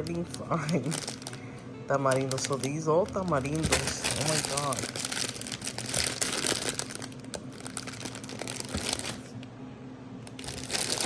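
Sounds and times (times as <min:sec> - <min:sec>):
plastic wrappers crinkling: 0:00.0 - 0:09.4, 0:10.3 - 0:11.0.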